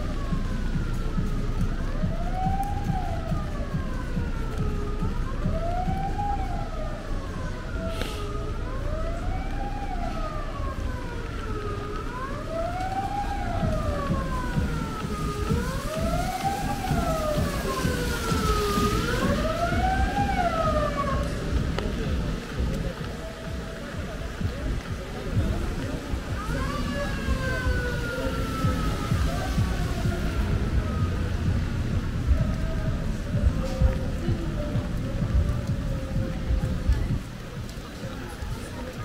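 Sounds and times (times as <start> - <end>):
siren wailing: 0.0 - 39.0
street noise rumble: 0.0 - 39.0.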